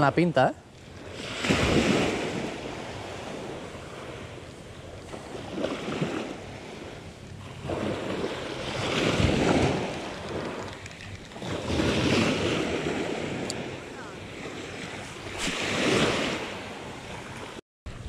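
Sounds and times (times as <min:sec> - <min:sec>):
small waves washing onto beach: 0:00.8 - 0:17.6
wind buffeting microphone: 0:00.9 - 0:18.0.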